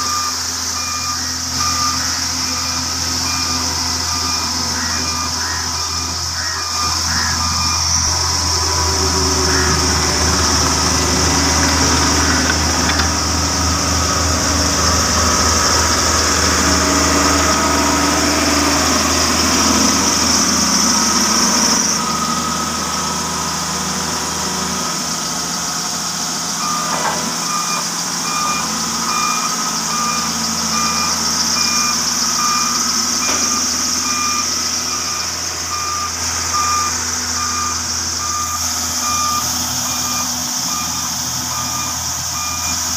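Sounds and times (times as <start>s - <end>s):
heavy machinery engine running: 0.0s - 42.9s
reversing alarm beeping: 0.0s - 42.9s.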